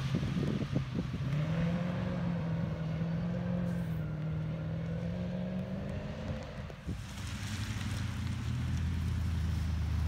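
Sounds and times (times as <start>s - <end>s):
racing car engine pulling hard: 0.0s - 10.0s.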